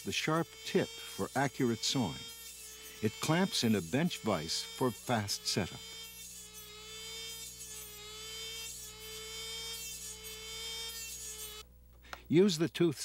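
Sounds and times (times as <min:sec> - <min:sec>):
grinding motor whining: 0:00.0 - 0:11.6.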